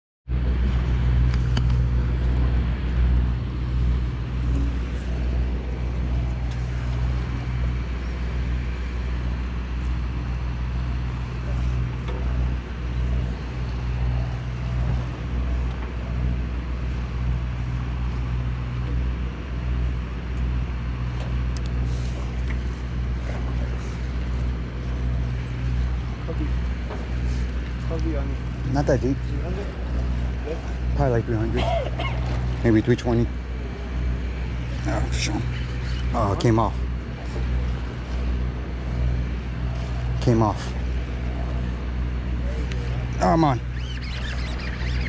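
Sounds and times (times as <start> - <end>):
boat engine droning: 0.3 - 45.0.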